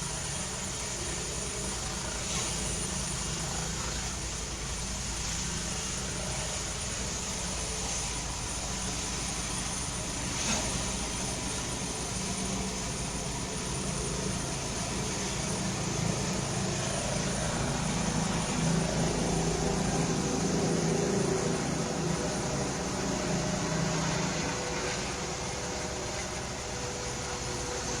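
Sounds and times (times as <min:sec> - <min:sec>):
helicopter engine and rotor: 0:00.0 - 0:28.0.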